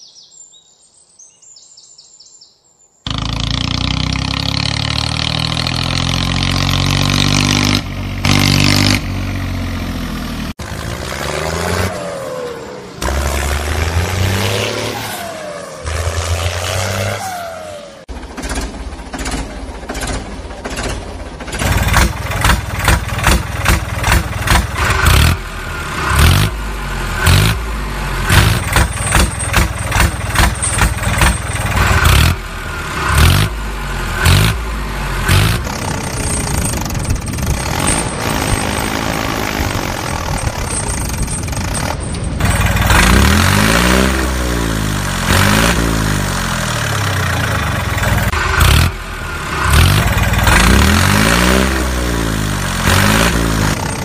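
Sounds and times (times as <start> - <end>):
tractor engine revving and chugging: 3.1 - 54.0.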